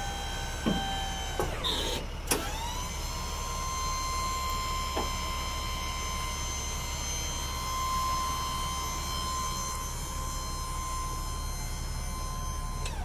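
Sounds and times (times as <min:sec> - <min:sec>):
hydraulic pump motor whining: 0:00.0 - 0:13.0.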